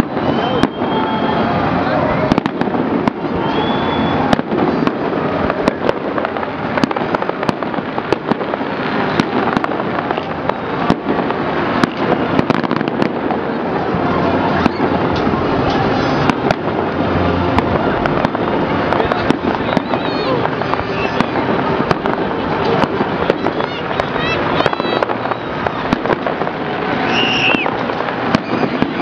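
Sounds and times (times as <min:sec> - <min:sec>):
dense background noise: 0:00.0 - 0:29.0
fireworks bursting: 0:00.0 - 0:29.0.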